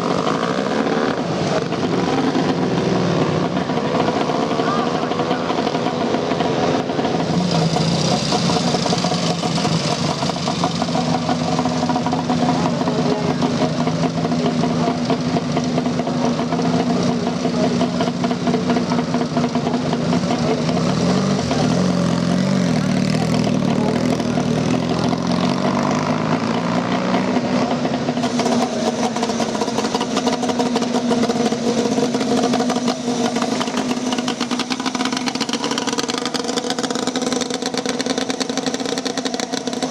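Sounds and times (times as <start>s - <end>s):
motorcycle engine idling: 0.0s - 25.5s, 27.6s - 39.9s.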